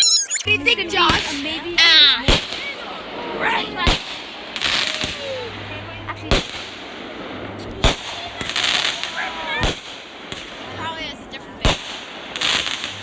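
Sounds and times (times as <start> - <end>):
firework crackling: 0.0 - 13.0
firework bangs: 0.6 - 13.0.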